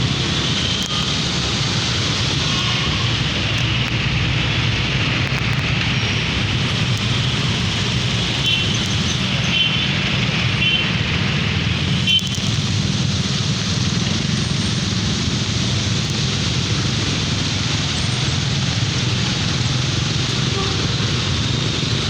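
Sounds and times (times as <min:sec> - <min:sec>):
traffic engine rumble: 0:00.0 - 0:22.0
tyre hiss on wet road: 0:00.0 - 0:22.0.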